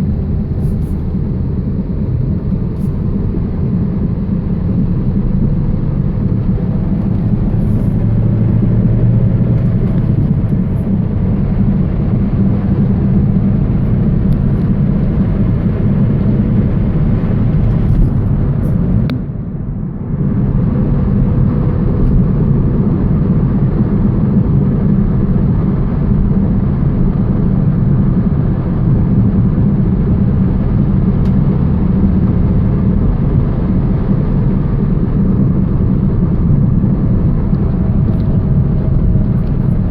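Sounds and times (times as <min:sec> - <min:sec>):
car driving with low drone: 0:00.0 - 0:39.9.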